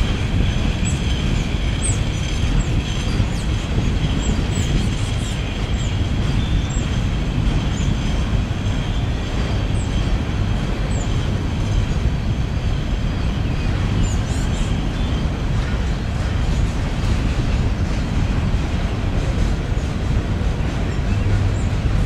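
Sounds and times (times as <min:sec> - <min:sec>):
train cars rumbling over bridge: 0:00.0 - 0:22.0.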